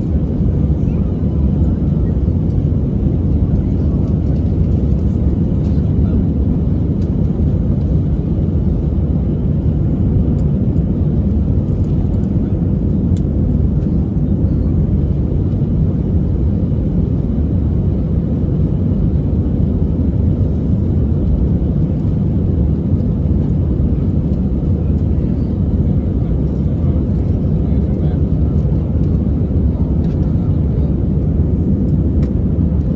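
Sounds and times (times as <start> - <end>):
aircraft cabin engine rumble: 0.0 - 32.9.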